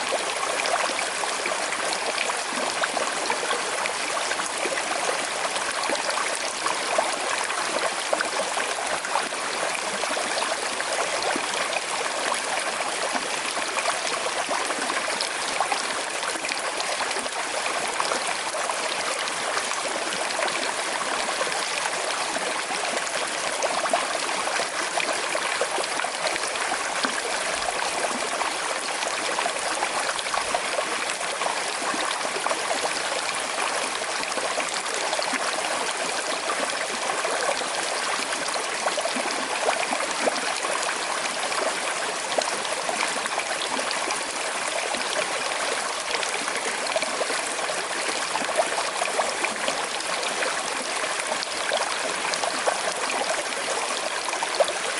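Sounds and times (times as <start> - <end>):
river babbling over stones: 0.0 - 54.9.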